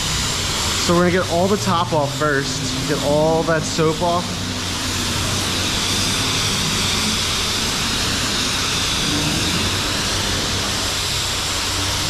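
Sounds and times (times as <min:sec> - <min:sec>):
high-pressure water spray hissing: 0:00.0 - 0:12.0
low even hum: 0:00.0 - 0:12.0.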